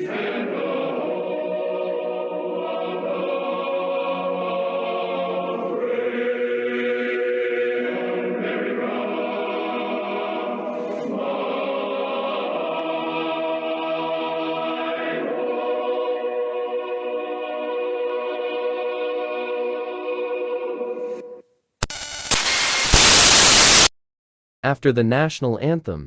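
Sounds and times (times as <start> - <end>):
choir singing held chords: 0.0 - 21.4.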